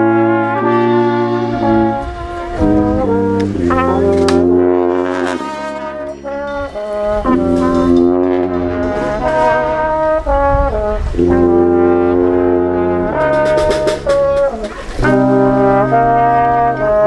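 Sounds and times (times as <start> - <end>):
brass band playing held chords: 0.0 - 17.0.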